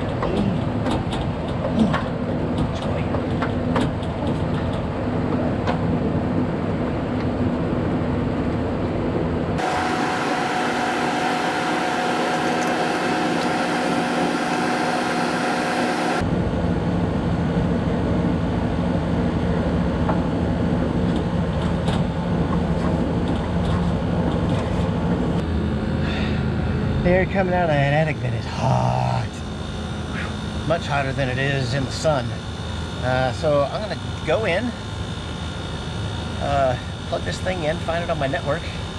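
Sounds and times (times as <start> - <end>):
air conditioner unit humming: 0.0 - 38.9.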